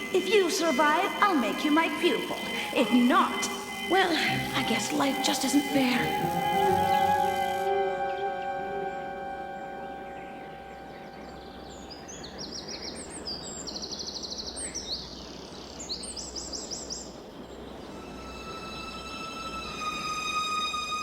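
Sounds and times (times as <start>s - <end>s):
birds chirping in trills: 0.0s - 21.0s
steady outdoor hiss: 0.0s - 21.0s.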